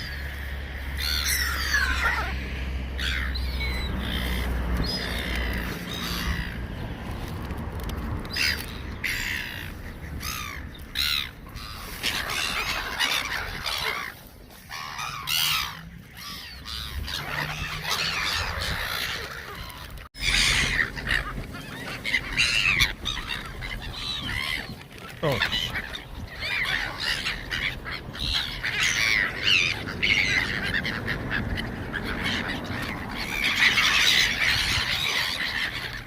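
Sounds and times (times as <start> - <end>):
gulls squawking: 0.0 - 36.0.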